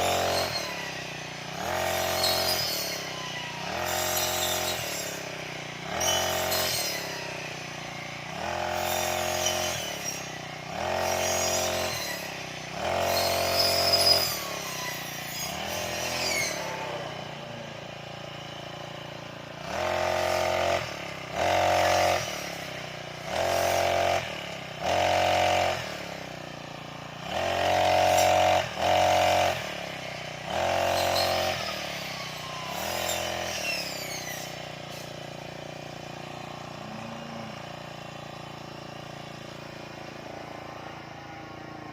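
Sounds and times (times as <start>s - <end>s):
brush cutter engine revving: 0.0s - 41.9s.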